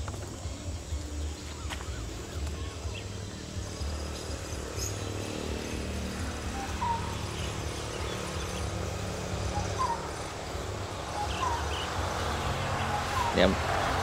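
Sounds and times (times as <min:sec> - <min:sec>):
bird calling with rising note: 0:00.3 - 0:14.0.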